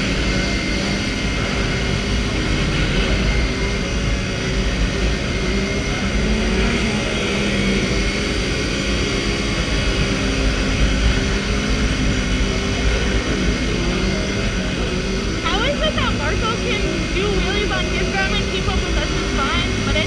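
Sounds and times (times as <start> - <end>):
motorcycle engine drone: 0.0 - 20.0.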